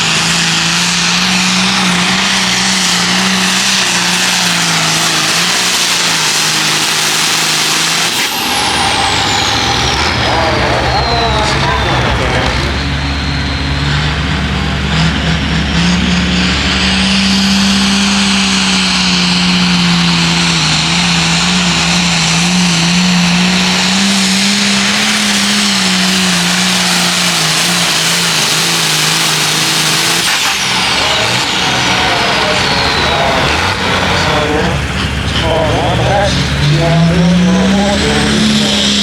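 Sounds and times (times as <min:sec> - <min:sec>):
tractor engine at full throttle: 0:00.0 - 0:39.0.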